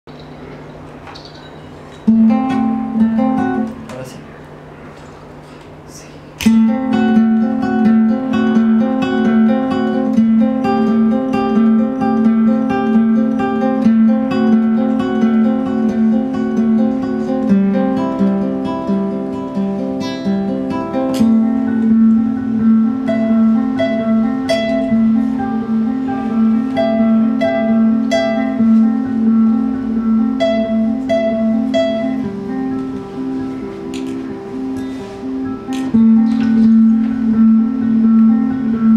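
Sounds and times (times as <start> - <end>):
fingerpicked acoustic guitar: 0.4 - 38.9.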